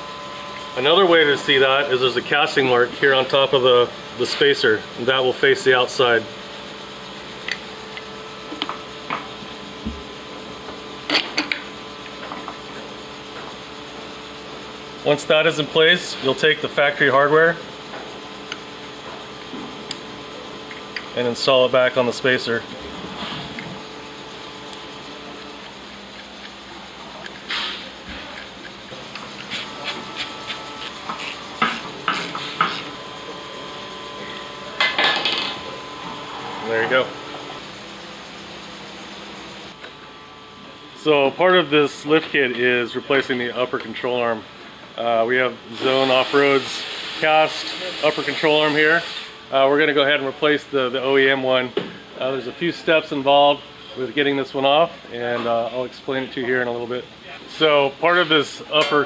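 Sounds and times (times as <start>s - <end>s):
steady shop hum: 0.0s - 59.0s.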